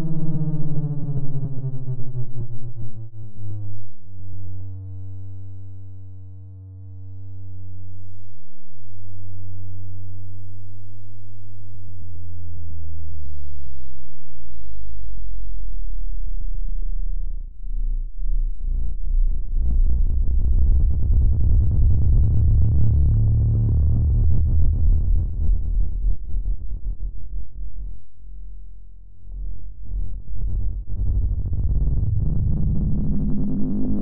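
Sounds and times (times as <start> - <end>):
low droning synth tone: 0.0 - 34.0.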